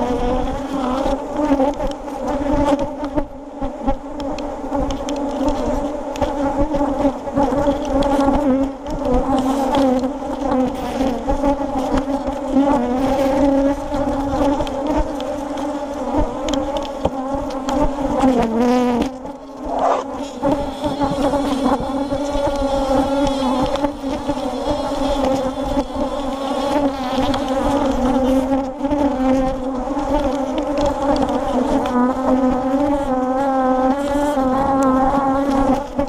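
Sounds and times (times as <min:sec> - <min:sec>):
honeybees buzzing: 0:00.0 - 0:36.0
single bee buzzing past: 0:00.0 - 0:36.0.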